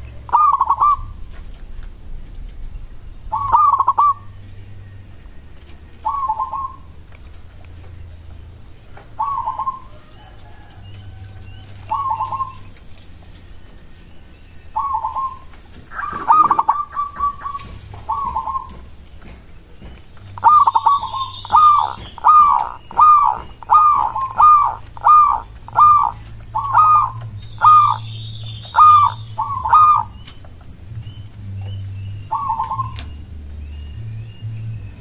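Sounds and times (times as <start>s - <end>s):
dove cooing: 0.0s - 1.4s, 3.2s - 4.3s, 5.6s - 7.0s, 8.8s - 34.6s.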